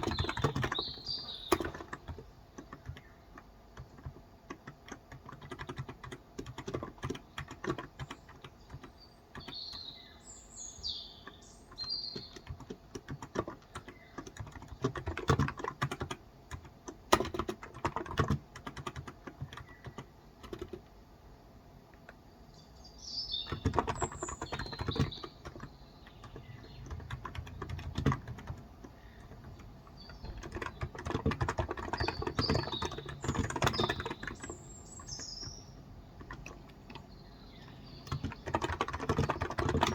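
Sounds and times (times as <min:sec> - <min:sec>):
keyboard keys clicking: 0:00.0 - 0:09.9, 0:10.8 - 0:21.0, 0:23.3 - 0:39.9
birds chirping: 0:00.0 - 0:16.7, 0:17.4 - 0:20.8, 0:22.0 - 0:39.9.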